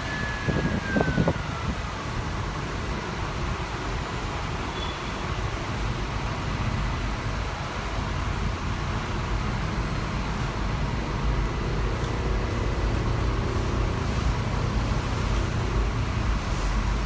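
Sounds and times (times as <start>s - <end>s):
bus engine rumbling: 0.0s - 17.0s
traffic and road noise: 0.0s - 17.0s.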